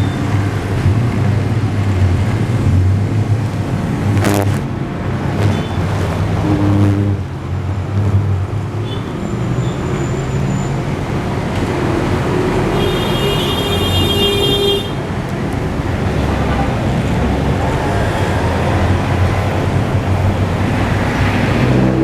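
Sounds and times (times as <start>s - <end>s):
vehicle engines running: 0.0s - 22.0s.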